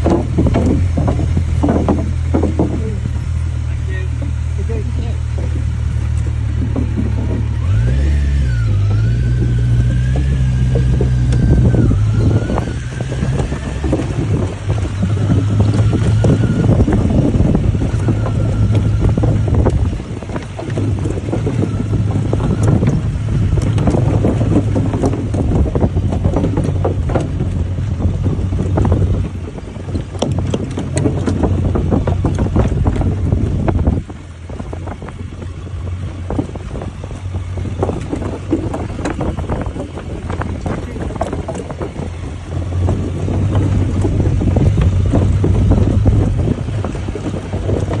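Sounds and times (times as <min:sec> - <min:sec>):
motorcycle engine running: 0:00.0 - 0:48.0
wind buffeting microphone: 0:00.0 - 0:48.0.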